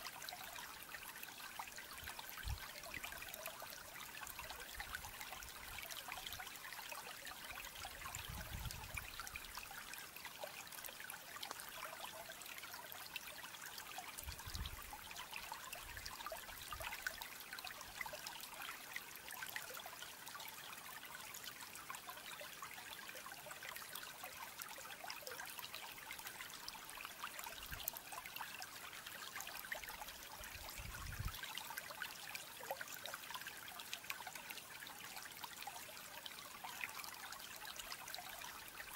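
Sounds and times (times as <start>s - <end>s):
trickle of running water: 0.0s - 38.9s.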